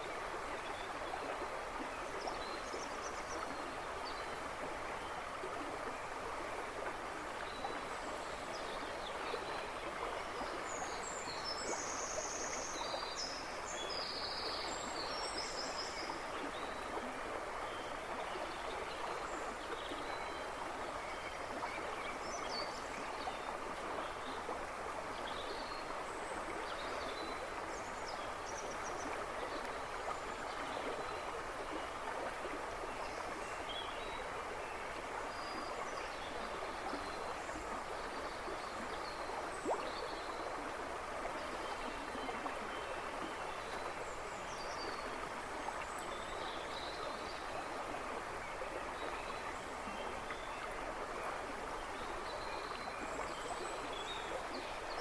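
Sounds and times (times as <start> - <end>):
river babbling: 0.0 - 55.0.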